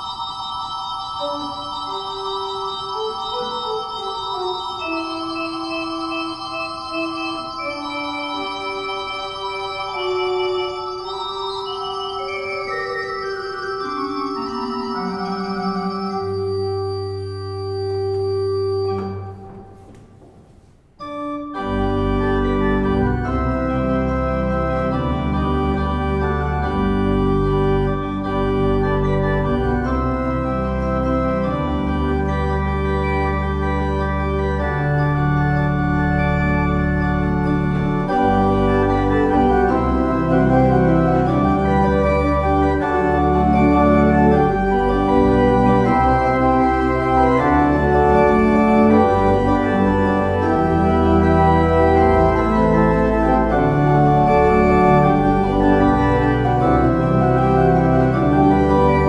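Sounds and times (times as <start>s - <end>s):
organ chords: 0.0s - 20.3s, 21.0s - 59.0s.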